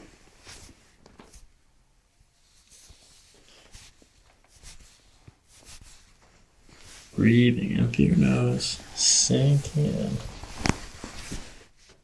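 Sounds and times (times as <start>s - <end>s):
rustles of hands and clothing: 0.0s - 12.0s.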